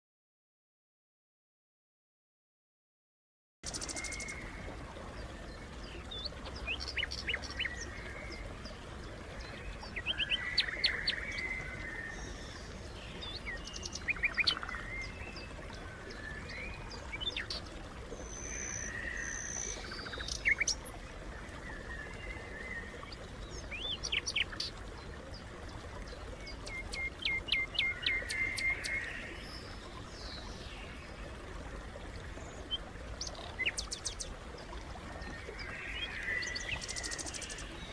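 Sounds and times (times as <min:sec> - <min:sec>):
songbirds chirping: 0:03.6 - 0:37.9.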